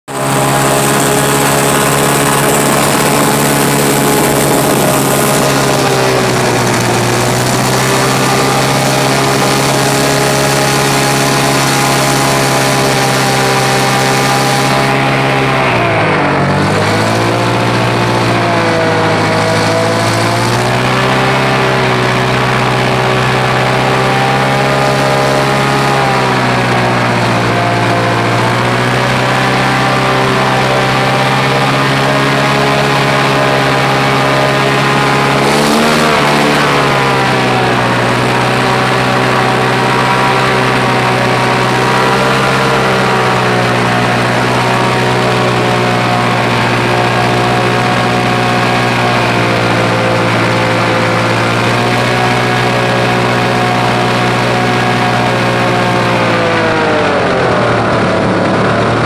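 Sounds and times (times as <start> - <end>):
airboat engine and propeller: 0.0 - 59.0.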